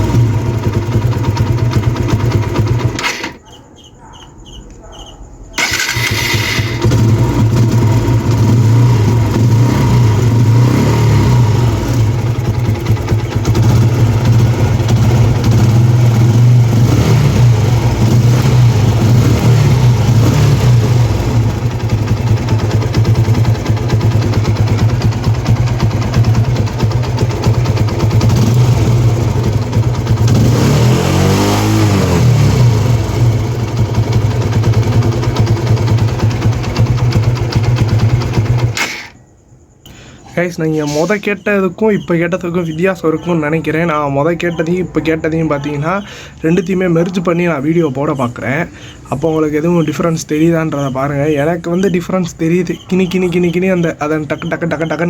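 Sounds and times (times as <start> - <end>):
motorcycle engine idling: 0.0 - 4.6, 5.5 - 40.3, 41.2 - 55.0.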